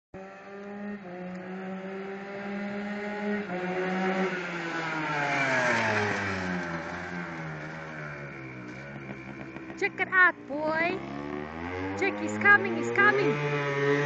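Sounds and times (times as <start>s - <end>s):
go-kart two-stroke engine: 0.2s - 14.0s.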